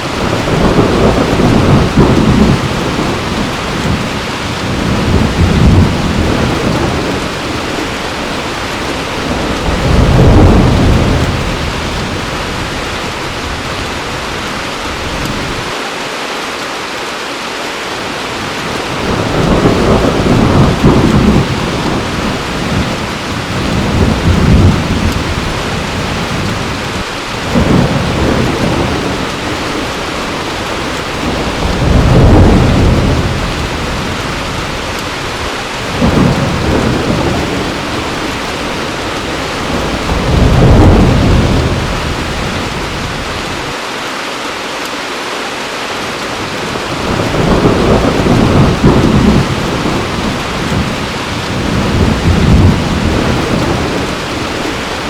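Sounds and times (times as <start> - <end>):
thunder rolling: 0.0 - 15.7, 18.4 - 43.7, 46.4 - 55.0
heavy rain falling: 0.0 - 55.0.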